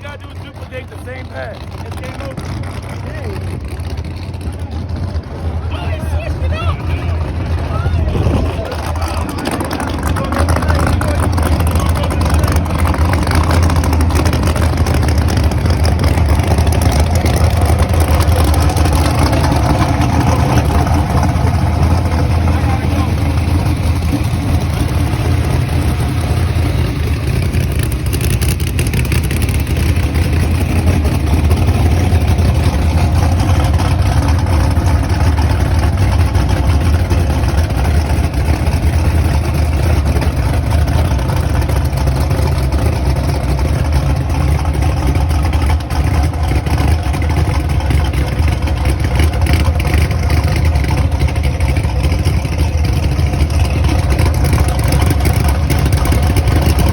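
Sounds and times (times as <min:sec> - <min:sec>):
vehicle engine rumbling: 0:00.0 - 0:56.9.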